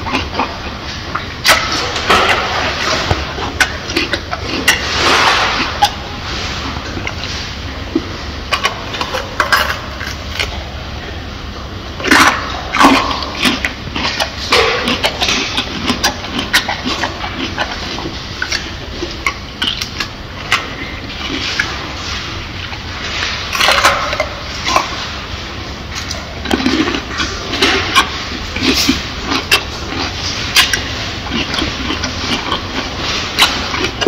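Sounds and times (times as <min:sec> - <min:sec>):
gorilla chewing food: 0:00.0 - 0:34.0
steady low hum: 0:00.0 - 0:34.0.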